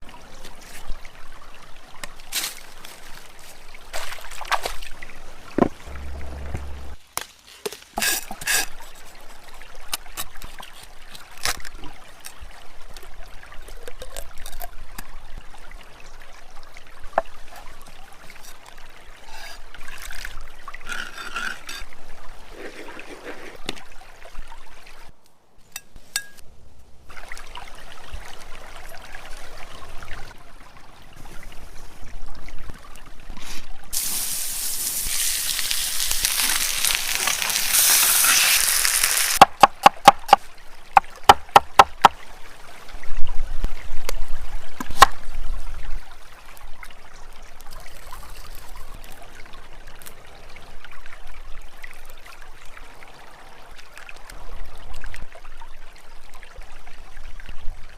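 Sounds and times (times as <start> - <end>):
water trickling: 0.1 - 7.0, 8.2 - 25.2, 27.1 - 57.7.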